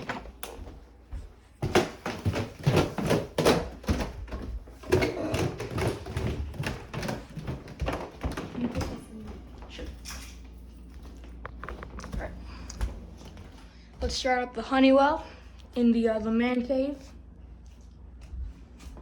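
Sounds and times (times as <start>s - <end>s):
footsteps going down stairs: 0.0s - 15.2s, 17.6s - 19.0s.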